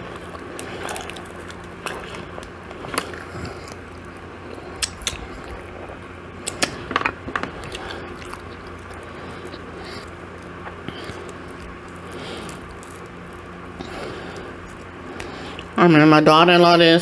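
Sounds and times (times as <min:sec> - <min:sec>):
person chewing crunchy food: 0:00.0 - 0:15.8
faint low hum: 0:00.0 - 0:17.0.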